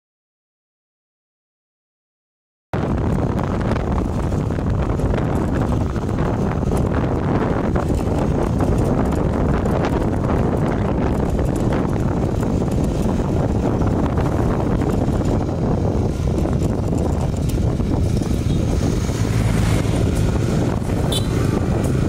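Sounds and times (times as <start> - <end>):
wind buffeting microphone: 2.8 - 22.0.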